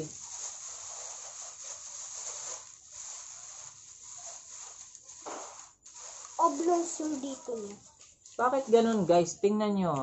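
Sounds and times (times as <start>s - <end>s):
background hiss: 0.0s - 10.0s
plastic headphones rustling: 0.0s - 10.0s.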